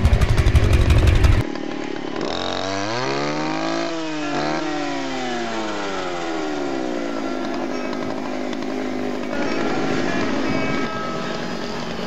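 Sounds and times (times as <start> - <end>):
brush saw engine revving: 0.0 - 12.0.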